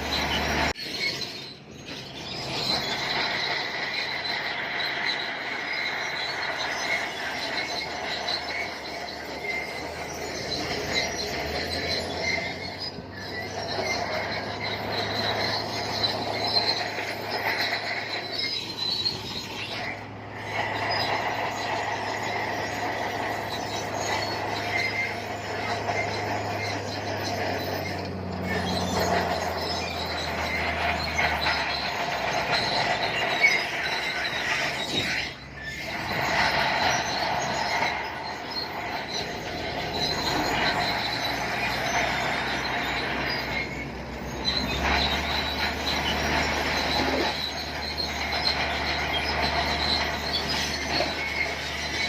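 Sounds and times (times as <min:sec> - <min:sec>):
low diesel engine drone: 0:00.0 - 0:52.0
steel tracks squealing: 0:00.0 - 0:52.0.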